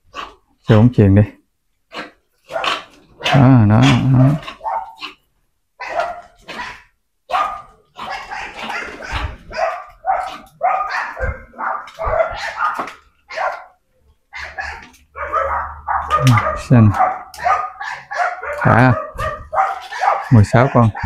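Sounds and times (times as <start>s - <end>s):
puppies yipping and barking: 2.5s - 5.2s, 5.8s - 21.0s.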